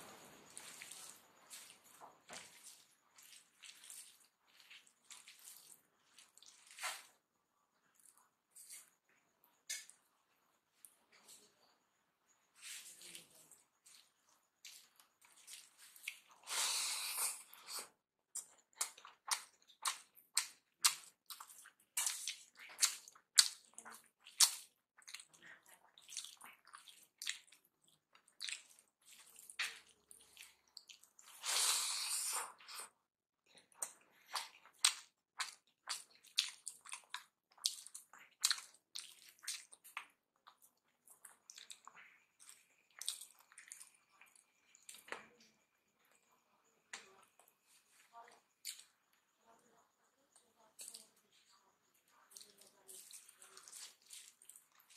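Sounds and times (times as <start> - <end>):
food squishing between fingers: 0.0 - 54.9
wet chewing: 0.5 - 10.1, 12.6 - 46.2, 46.9 - 49.2, 50.4 - 54.9.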